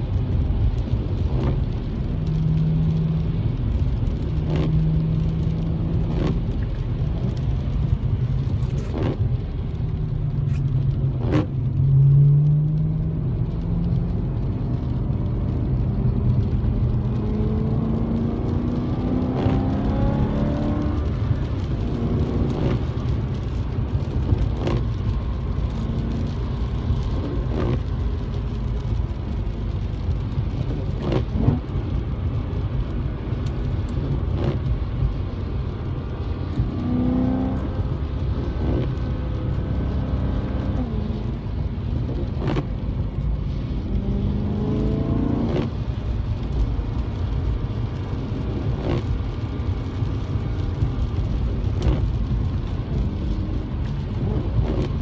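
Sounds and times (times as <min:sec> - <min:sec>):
road noise rumble: 0:00.0 - 0:55.0
car engine revving: 0:00.7 - 0:55.0.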